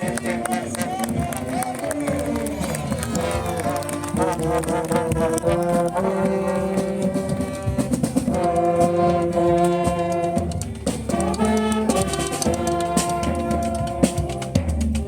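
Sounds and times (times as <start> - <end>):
brass instruments playing tune: 0.0 - 15.0.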